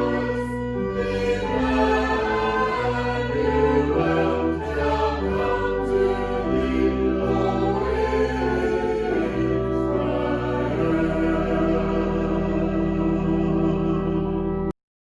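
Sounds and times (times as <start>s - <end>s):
choir singing held chords: 0.0s - 14.7s.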